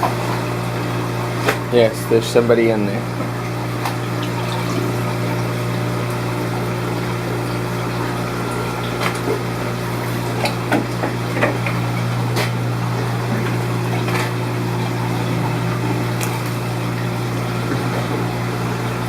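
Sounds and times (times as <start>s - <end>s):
pumps and water circulation hum: 0.0s - 19.0s.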